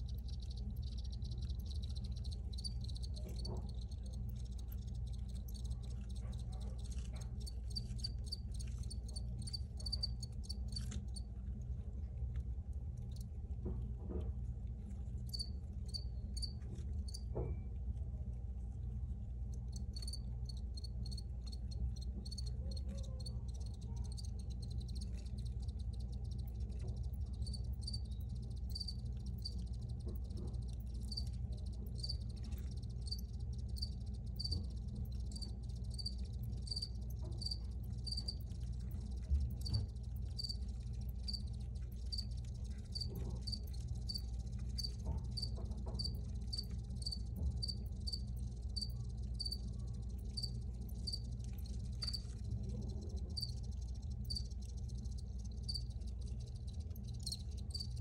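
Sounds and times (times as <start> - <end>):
crickets chirping: 0.0 - 11.3, 15.3 - 17.4, 19.7 - 58.0.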